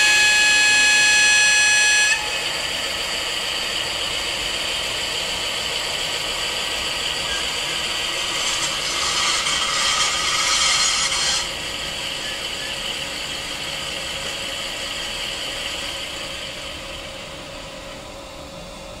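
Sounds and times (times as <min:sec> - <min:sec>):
diesel engine sound from speaker: 0:00.0 - 0:08.4, 0:11.5 - 0:19.0.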